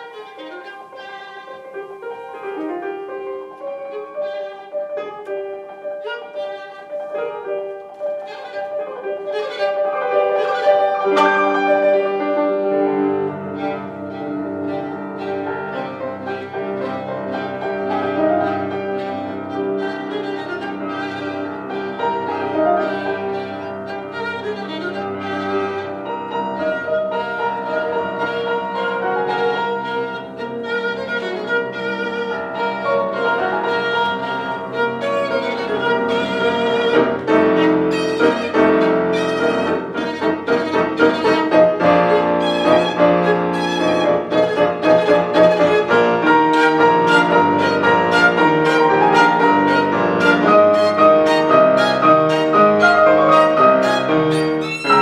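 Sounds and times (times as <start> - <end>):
grand piano: 0.0 - 55.0
violin melody: 0.0 - 55.0.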